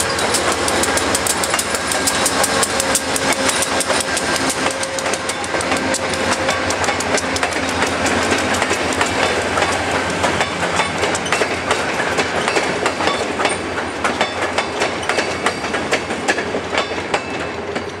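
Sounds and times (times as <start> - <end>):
train rolling rumble: 0.0 - 18.0
train wheels clickety-clack: 0.0 - 18.0.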